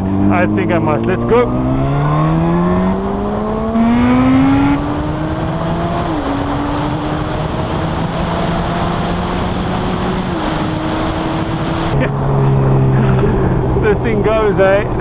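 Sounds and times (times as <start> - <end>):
motorcycle engine accelerating: 0.0 - 15.0
wind on microphone: 1.5 - 14.2.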